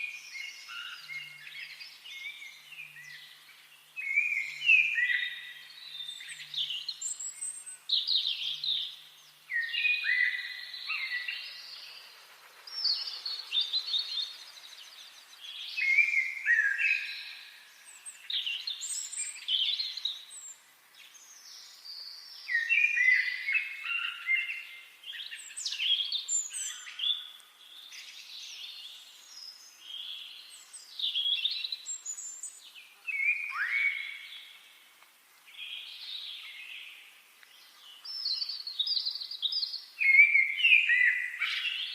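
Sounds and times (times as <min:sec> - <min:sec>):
songbirds singing: 0:00.0 - 0:41.9.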